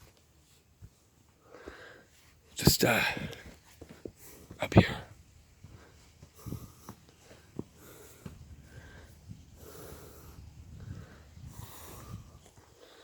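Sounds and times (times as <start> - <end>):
soft footsteps: 0.0 - 13.0
person breathing hard: 1.4 - 2.3, 2.9 - 13.0.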